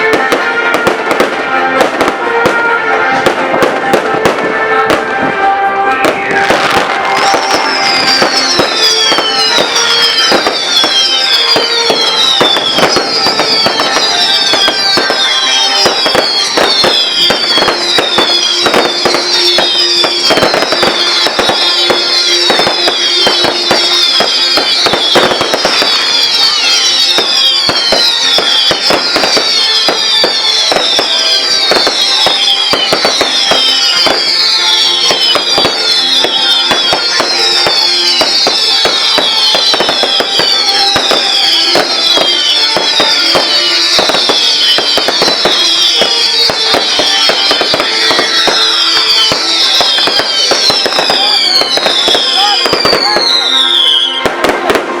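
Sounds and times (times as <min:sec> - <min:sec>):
fireworks crackling bangs: 0:00.0 - 0:55.0
fireworks falling whistles: 0:00.0 - 0:55.0
music playing: 0:00.0 - 0:55.0.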